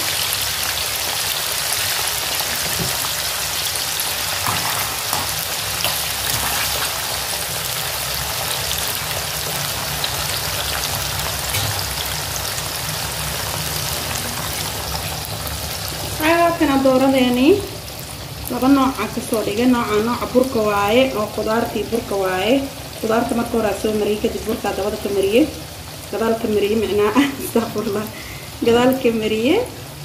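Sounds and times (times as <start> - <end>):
fries sizzling in hot oil: 0.0 - 30.0.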